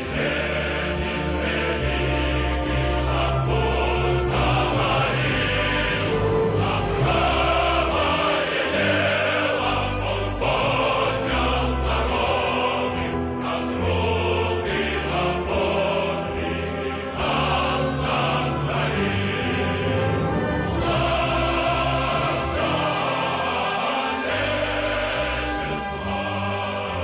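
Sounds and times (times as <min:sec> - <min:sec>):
choir singing sustained chords: 0:00.0 - 0:27.0.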